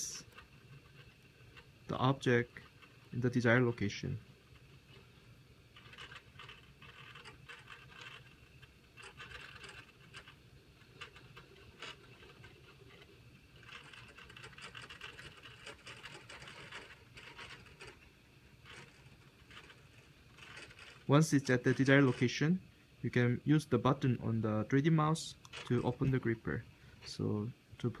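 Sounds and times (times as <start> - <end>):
light scratchy noise: 0.0 - 28.0.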